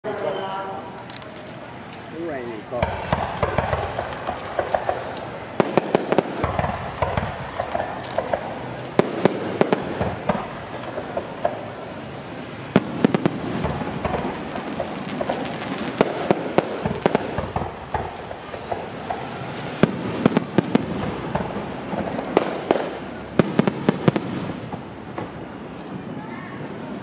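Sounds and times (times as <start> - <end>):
firework crackling: 0.0 - 27.0
firework shells bursting: 1.0 - 26.9.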